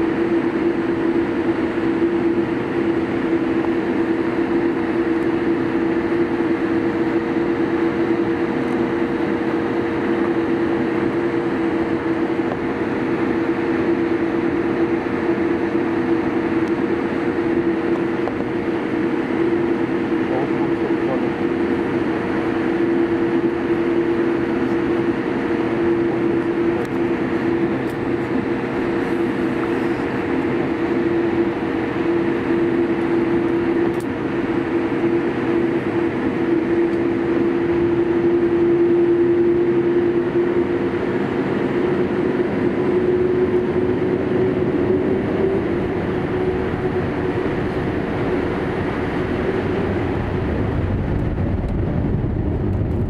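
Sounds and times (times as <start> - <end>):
jet engines rumbling and whining: 0.0 - 53.0.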